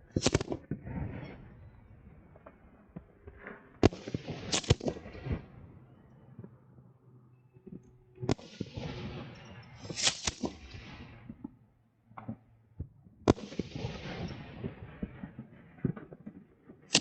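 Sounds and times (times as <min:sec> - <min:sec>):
fireworks reports with echoing rumble: 0:00.0 - 0:17.0
small firework pops: 0:00.1 - 0:01.5, 0:02.3 - 0:05.5, 0:07.6 - 0:17.0.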